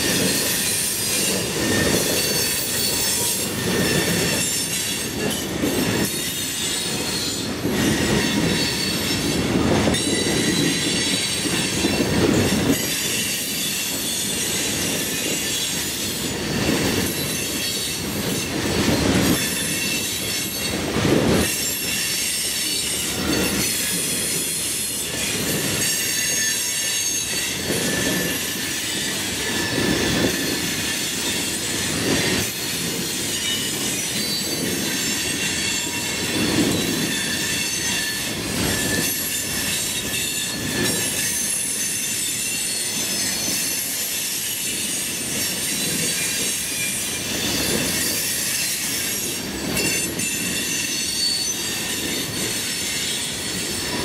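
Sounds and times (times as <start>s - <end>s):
freight train rumble: 0.0s - 54.0s
steel wheels squealing: 0.0s - 54.0s.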